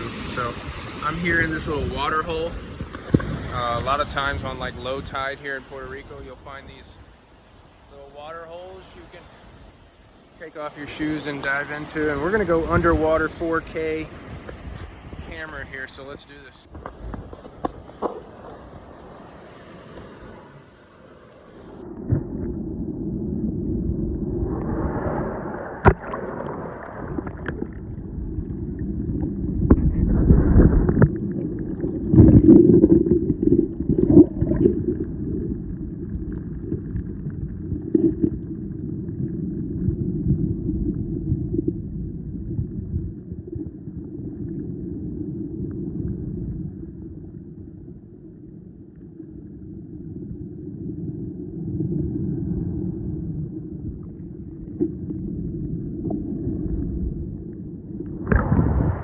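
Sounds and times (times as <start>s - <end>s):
underwater rumble and sloshing: 0.0s - 59.0s.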